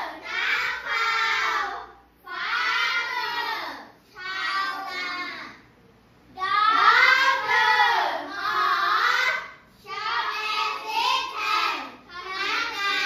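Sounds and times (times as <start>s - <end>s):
children singing in unison: 0.0s - 5.5s, 6.5s - 13.0s.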